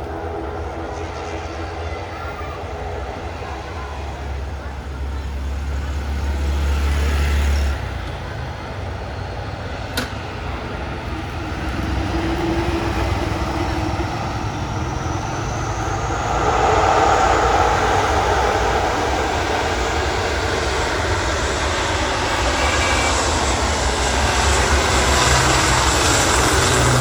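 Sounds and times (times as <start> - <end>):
turboprop engines whining: 0.0 - 27.0.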